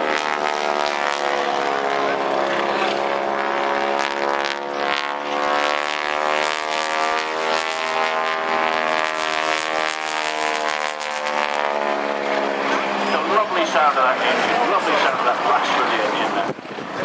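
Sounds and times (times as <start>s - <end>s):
propeller plane engine overhead: 0.0s - 17.0s.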